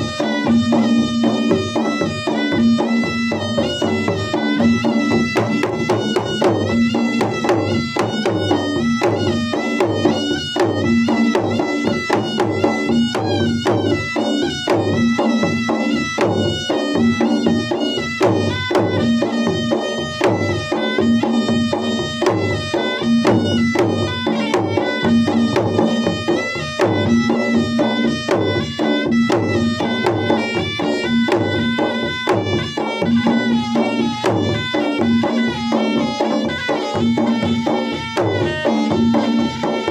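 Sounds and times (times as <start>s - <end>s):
drums beaten in fast rhythm: 0.0s - 39.9s
reedy melody: 0.0s - 39.9s.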